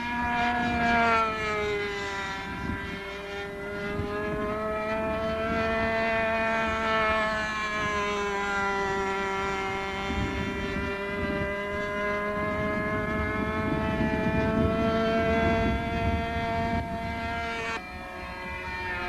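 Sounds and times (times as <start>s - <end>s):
model plane engine whining: 0.0s - 19.0s.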